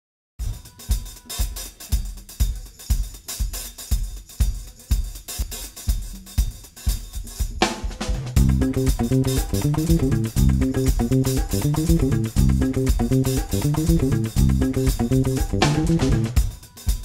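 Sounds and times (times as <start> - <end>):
drum-kit beat: 0.4 - 17.0.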